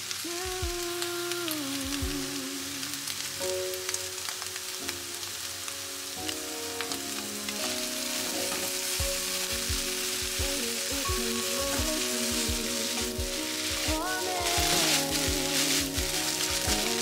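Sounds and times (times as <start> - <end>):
background music: 0.0 - 17.0
rice sizzling in a pan: 0.0 - 17.0.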